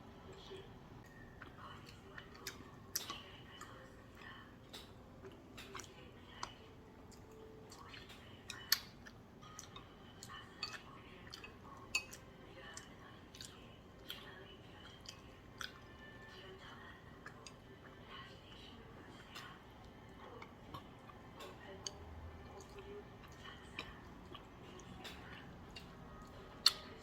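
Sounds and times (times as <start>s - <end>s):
faint television speech: 0.0s - 27.0s
soft eating clicks: 0.2s - 27.0s
wet chewing sounds: 1.3s - 27.0s.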